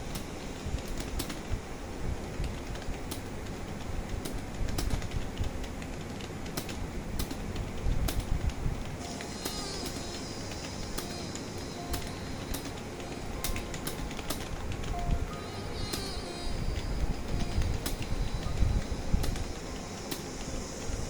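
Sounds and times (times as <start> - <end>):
typing on computer keyboard: 2.4 - 21.0.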